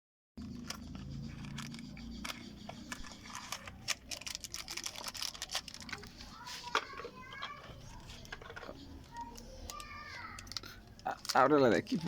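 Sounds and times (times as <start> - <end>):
hand handling clicks and crinkling: 0.4 - 12.0.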